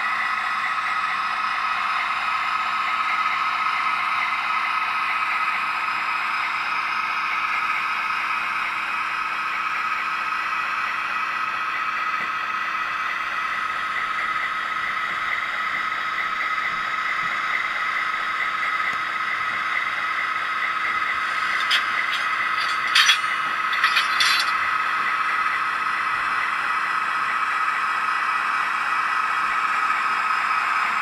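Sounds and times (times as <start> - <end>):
diesel locomotive engine through small speaker: 0.0 - 31.0.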